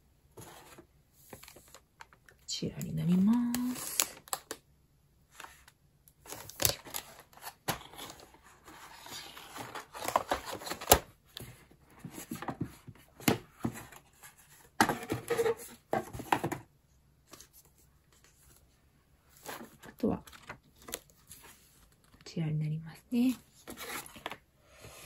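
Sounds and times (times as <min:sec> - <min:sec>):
cardboard and paper rustling: 0:00.3 - 0:02.4, 0:03.0 - 0:04.6, 0:05.3 - 0:22.2, 0:23.2 - 0:25.0.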